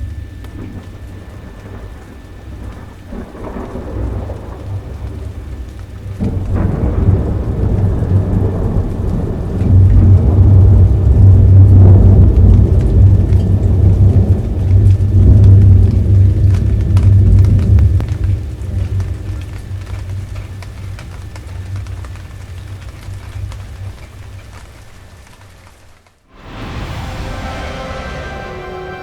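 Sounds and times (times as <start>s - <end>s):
rolling thunder: 0.0s - 25.0s, 26.3s - 29.0s
rain: 0.0s - 29.0s
sharp thunderclap: 0.6s - 23.8s, 26.3s - 29.0s.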